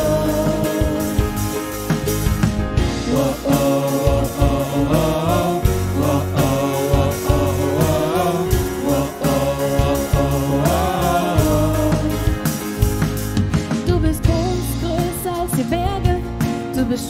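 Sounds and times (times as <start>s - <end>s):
women singing wordless melody: 0.0s - 1.6s, 3.0s - 12.4s, 13.9s - 17.0s
live band playing upbeat song: 0.0s - 17.0s.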